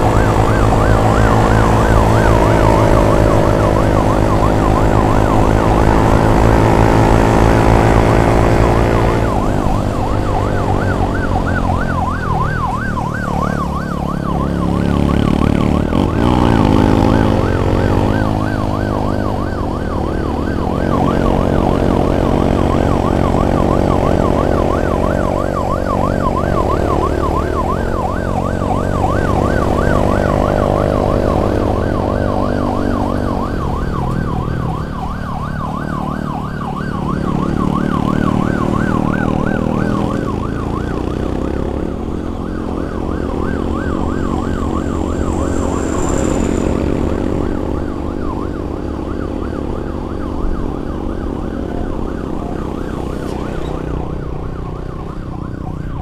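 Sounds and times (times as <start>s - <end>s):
warbling emergency siren: 0.0s - 56.0s.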